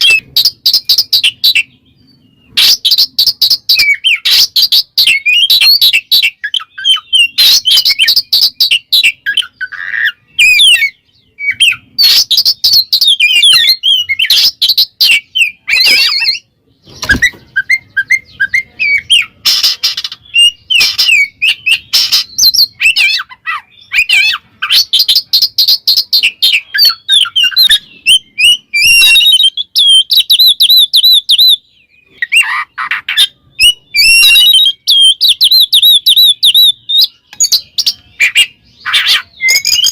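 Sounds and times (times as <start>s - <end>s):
bird singing whistled song: 0.0s - 39.9s.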